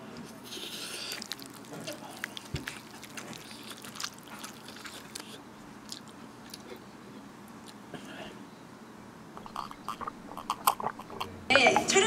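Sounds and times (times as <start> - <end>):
chewing with sharp crackles: 0.2 - 8.1, 9.4 - 11.4.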